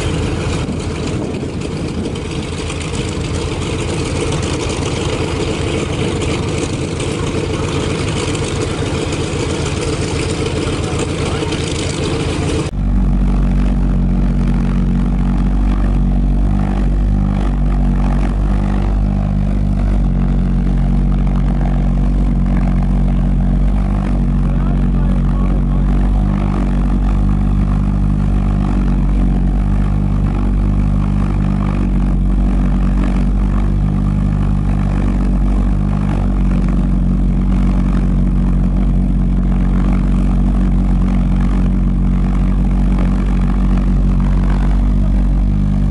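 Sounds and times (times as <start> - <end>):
different engine cutting off: 0.0 - 45.9
piston aircraft engine running: 0.0 - 45.9.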